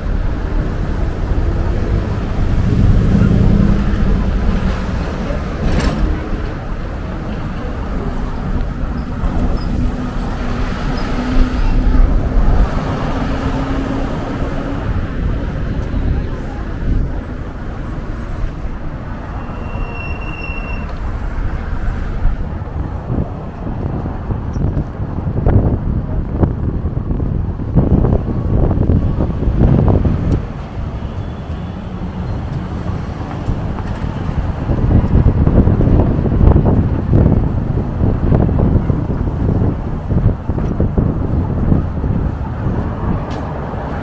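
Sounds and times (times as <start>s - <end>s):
traffic rumble: 0.0s - 44.0s
vehicle engine: 0.0s - 44.0s.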